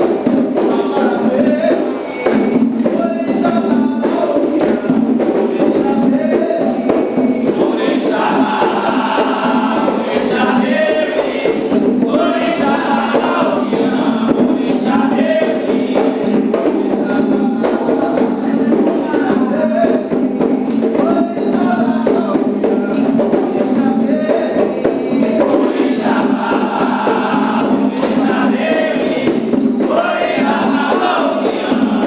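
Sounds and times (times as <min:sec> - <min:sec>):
group singing a chant: 0:00.0 - 0:32.0
hand percussion: 0:00.0 - 0:32.0.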